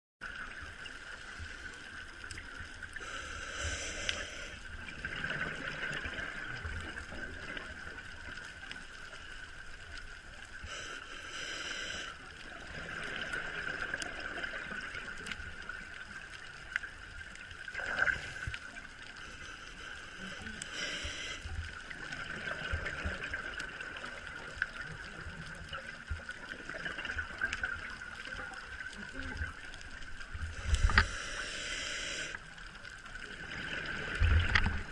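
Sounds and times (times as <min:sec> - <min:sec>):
muffled underwater hiss: 0:00.2 - 0:34.9.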